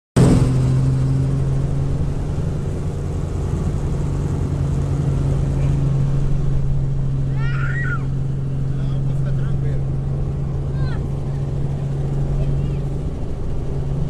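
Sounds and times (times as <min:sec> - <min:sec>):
helicopter engine and rotor drone: 0:00.2 - 0:14.0.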